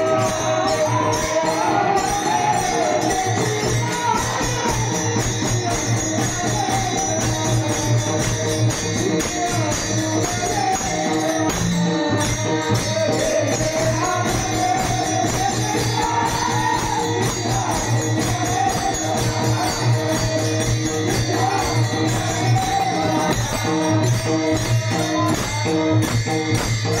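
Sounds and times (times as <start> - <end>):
jingling percussion: 0.0 - 27.0
person singing devotional song: 0.0 - 27.0.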